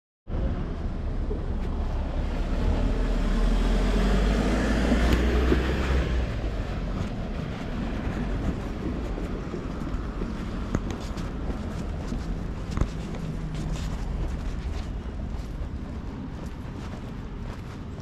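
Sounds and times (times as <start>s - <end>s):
low traffic rumble: 0.3s - 18.0s
vehicle passing close: 1.1s - 18.0s.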